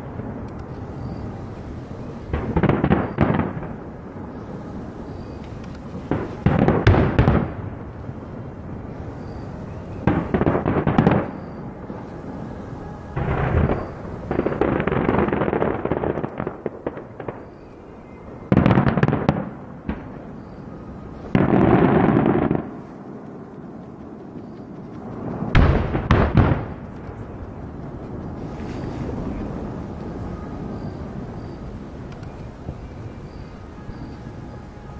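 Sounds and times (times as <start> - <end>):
firework booms and crackle: 0.0 - 12.4, 13.1 - 23.3, 25.0 - 34.0.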